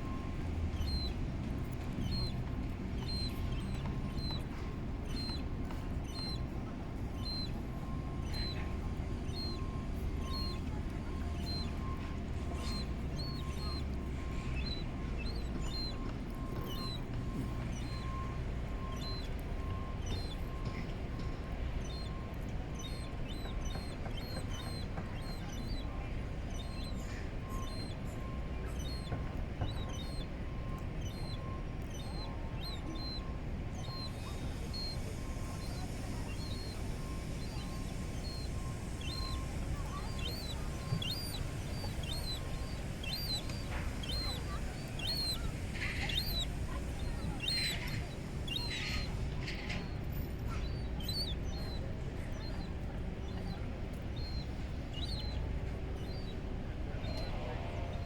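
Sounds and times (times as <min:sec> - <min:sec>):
birds chirping: 0:00.0 - 0:58.0
low background noise: 0:00.0 - 0:58.0
steady low rumble: 0:00.0 - 0:58.0
young gull begging peeps: 0:00.0 - 0:58.0.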